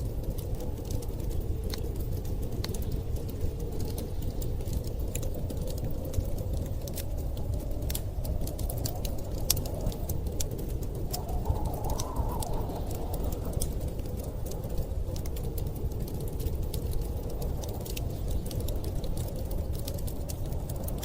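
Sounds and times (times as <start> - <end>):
low rumble of storm wind: 0.0 - 21.0
wood fire crackling and popping: 0.0 - 21.0.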